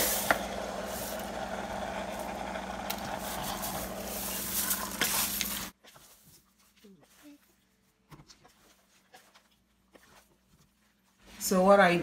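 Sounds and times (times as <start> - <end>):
wooden spatula stirring: 0.7 - 11.6.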